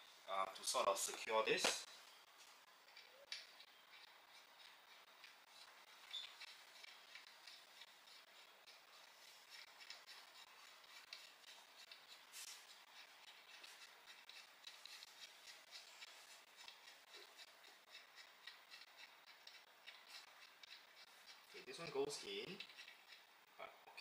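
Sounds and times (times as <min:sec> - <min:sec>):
small handling clicks and rubbing: 0:00.4 - 0:24.0.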